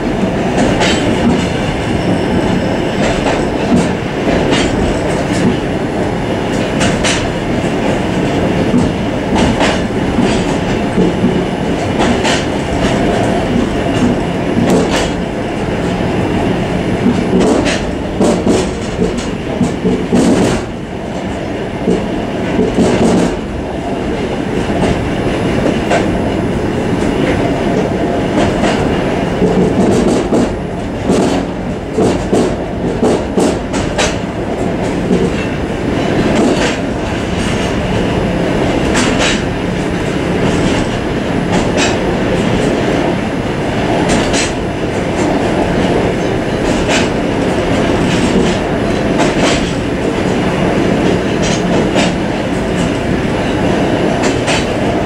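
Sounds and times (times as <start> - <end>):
train running on track: 0.0 - 55.0
wheels clacking on rails: 0.0 - 55.0.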